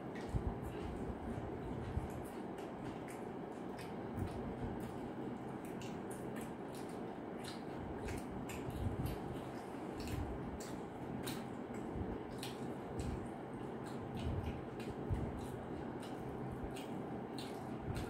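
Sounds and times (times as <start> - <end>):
people chewing: 0.0 - 18.0.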